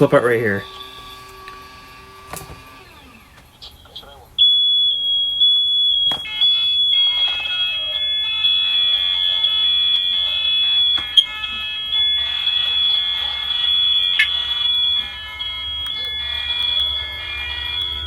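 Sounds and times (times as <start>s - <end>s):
smoke alarms sounding: 0.0s - 18.0s.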